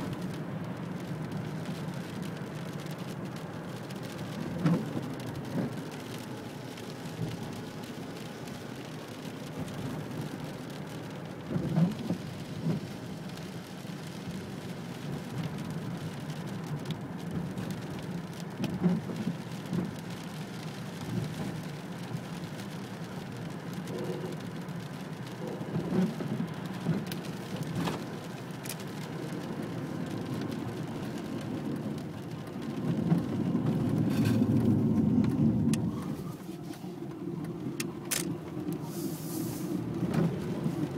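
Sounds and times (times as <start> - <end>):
car passing on wet road: 0.0 - 40.9
steady rain: 0.0 - 40.9.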